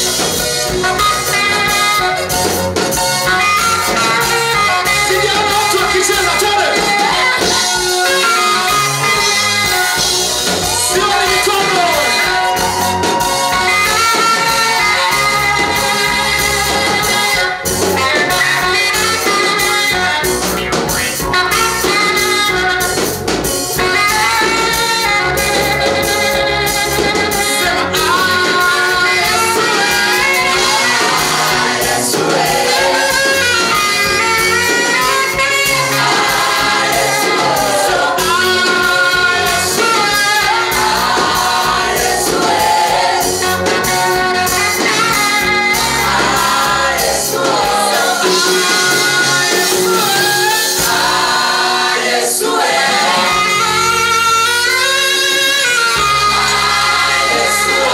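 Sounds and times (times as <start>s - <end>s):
gospel choir singing: 0.0s - 20.2s, 21.2s - 57.9s
band playing with a beat: 0.0s - 57.9s.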